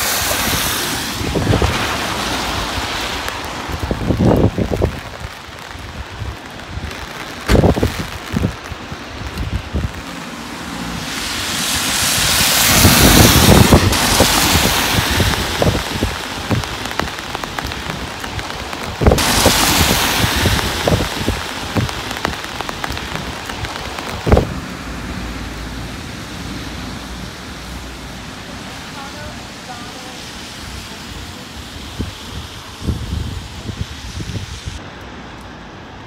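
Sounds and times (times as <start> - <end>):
car tyres hissing on wet road: 0.0 - 36.0
steady rain on street: 0.0 - 36.0.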